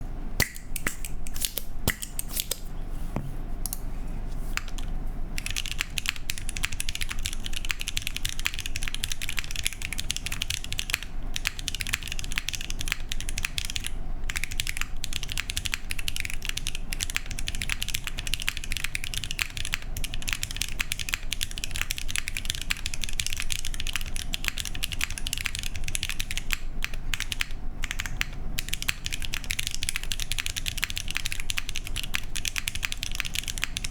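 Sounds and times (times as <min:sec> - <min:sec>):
typing on mechanical keyboard: 0:04.6 - 0:33.9.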